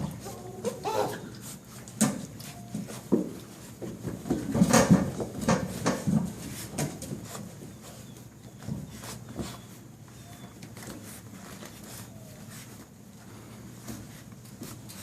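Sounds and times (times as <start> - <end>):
puppies knocking and scuffling: 0.0 - 15.0.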